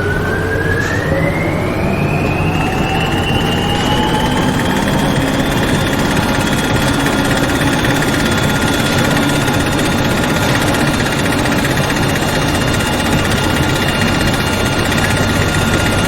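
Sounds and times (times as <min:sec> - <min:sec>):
heavy machinery rumbling: 0:00.0 - 0:16.0
high steady whining tones: 0:00.0 - 0:16.0.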